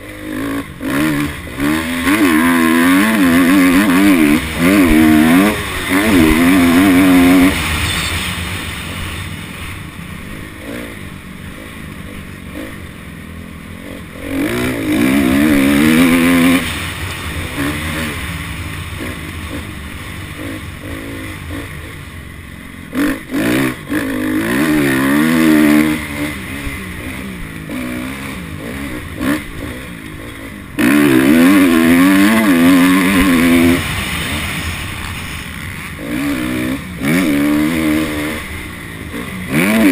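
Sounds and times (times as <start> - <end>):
dirt bike engine revving: 0.0 - 39.9
wind and riding noise: 0.0 - 39.9.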